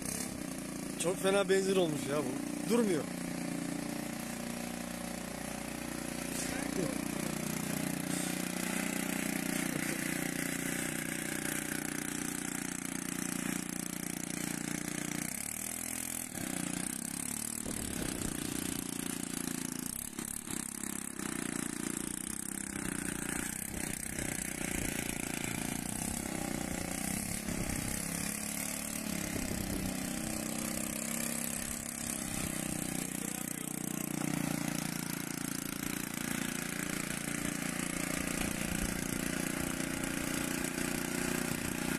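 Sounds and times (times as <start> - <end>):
small scooter engine running: 0.0 - 41.9.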